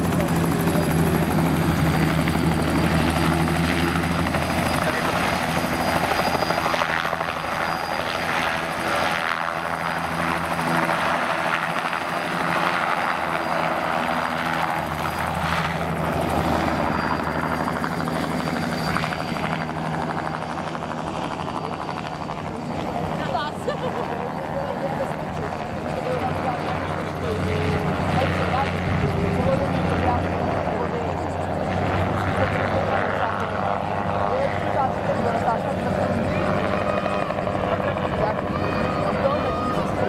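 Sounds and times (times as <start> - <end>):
gyroplane engine and propeller: 0.0 - 40.0.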